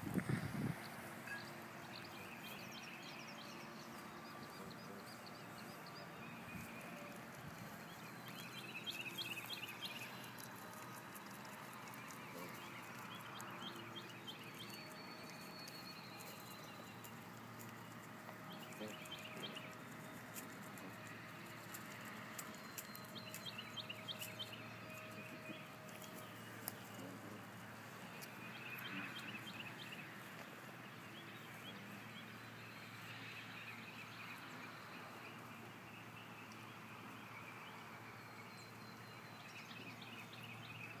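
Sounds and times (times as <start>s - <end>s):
small birds chirping: 0.2s - 41.0s.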